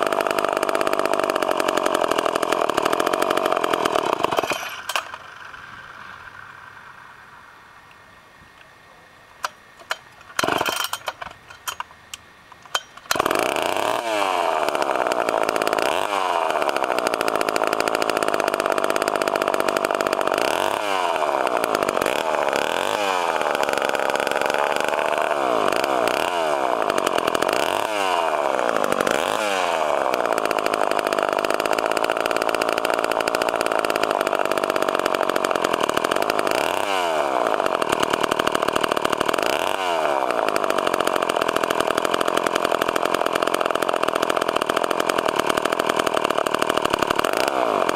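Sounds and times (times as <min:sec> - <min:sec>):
chainsaw engine revving: 0:00.0 - 0:07.0, 0:09.4 - 0:11.9, 0:12.6 - 0:47.9.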